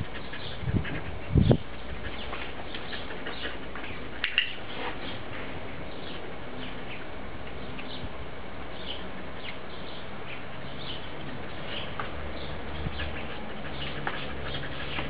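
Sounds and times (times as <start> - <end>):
outdoor background noise: 0.0 - 15.0
small birds chirping: 0.1 - 8.1, 8.7 - 15.0.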